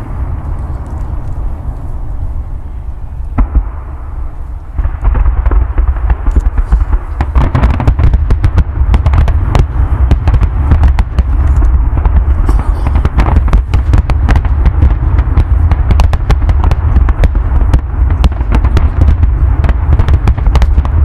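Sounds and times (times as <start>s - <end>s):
crackling firework bangs: 0.0s - 21.0s
low rumble: 0.0s - 21.0s
firework bang: 3.3s - 21.0s.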